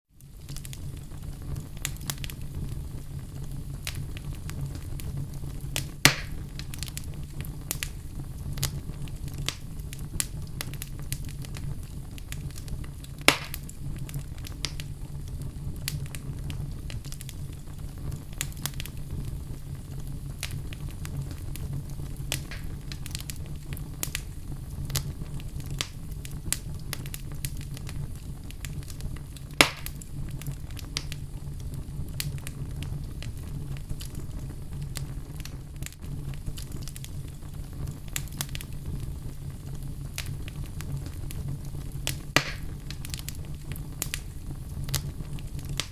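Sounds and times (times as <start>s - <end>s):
fire crackling in a fireplace: 0.1s - 45.9s
loud sharp pops of fire: 0.2s - 45.9s.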